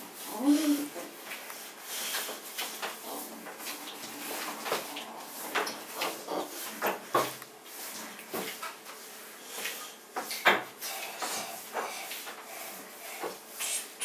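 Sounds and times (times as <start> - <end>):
dough on metal baking trays: 0.0 - 14.0
hands kneading bread dough: 0.0 - 14.0.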